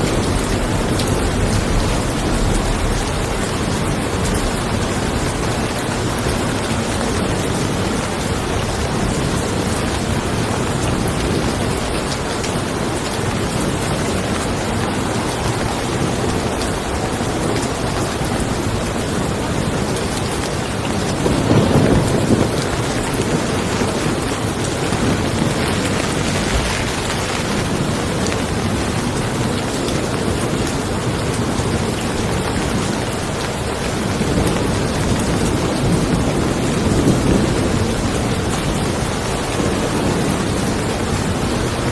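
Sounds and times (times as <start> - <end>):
rain falling: 0.0 - 41.9
thunder rumbling: 0.0 - 41.9.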